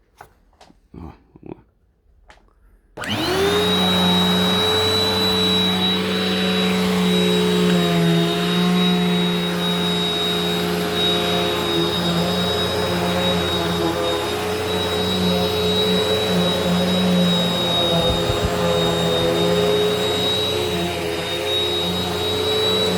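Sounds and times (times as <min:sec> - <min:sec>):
vacuum cleaner running: 0:03.0 - 0:22.9.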